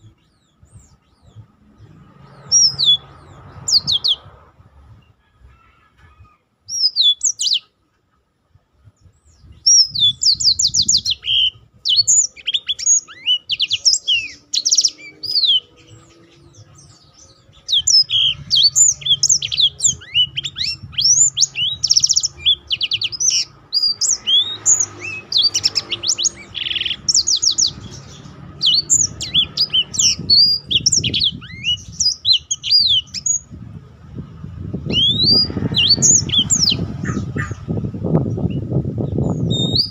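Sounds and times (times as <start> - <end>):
canary singing trills: 0.0 - 8.2, 8.8 - 39.9.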